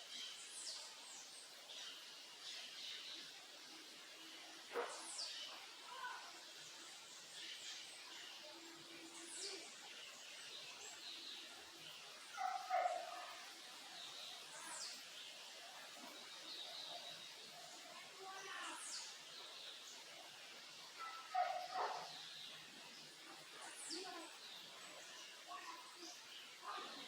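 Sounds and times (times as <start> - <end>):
birds calling and singing: 0.0 - 27.0.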